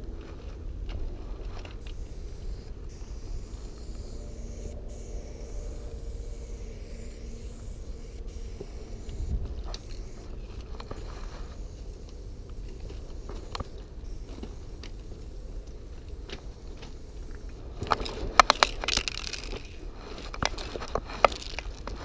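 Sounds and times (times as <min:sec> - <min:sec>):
spray paint can hissing: 0:01.8 - 0:19.7, 0:21.3 - 0:21.6.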